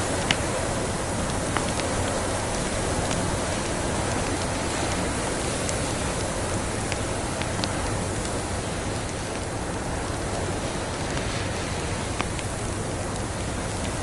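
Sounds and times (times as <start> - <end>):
snowstorm rushing: 0.0 - 14.0
wood fire crackling: 0.0 - 14.0.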